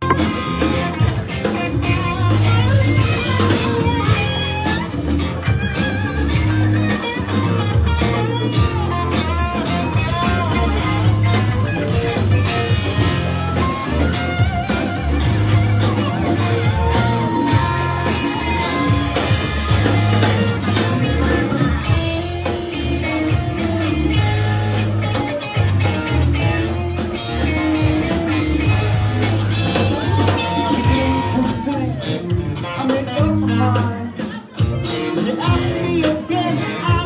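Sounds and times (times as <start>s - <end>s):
electric guitar lead: 0.0s - 37.0s
live rock band playing: 0.0s - 37.0s.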